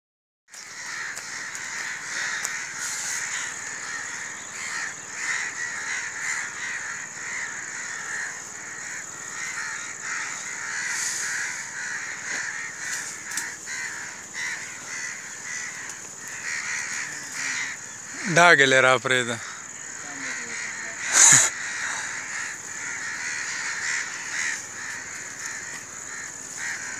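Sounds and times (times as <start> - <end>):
crows cawing: 0.5 - 26.9.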